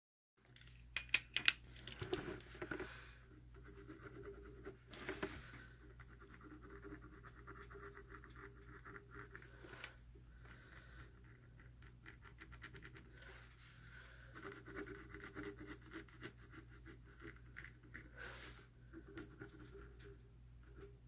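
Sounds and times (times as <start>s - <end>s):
steady low hum: 1.6s - 21.0s.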